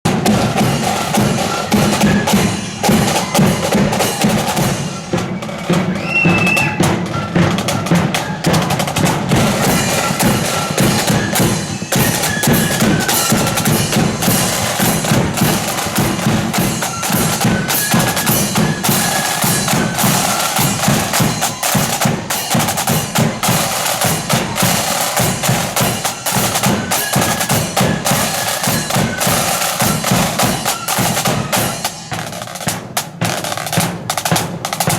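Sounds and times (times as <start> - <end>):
rapid snare drumming: 0.0 - 34.9
flutes playing melody: 0.2 - 32.4.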